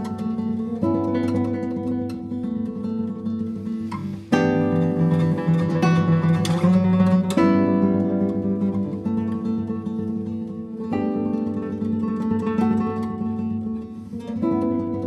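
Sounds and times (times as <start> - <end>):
acoustic guitars strumming chords: 0.0 - 15.0.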